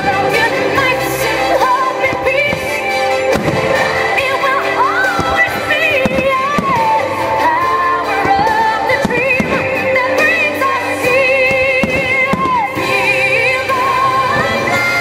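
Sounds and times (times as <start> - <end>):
person singing with vibrato: 0.0 - 15.0
pop music accompaniment: 0.0 - 15.0.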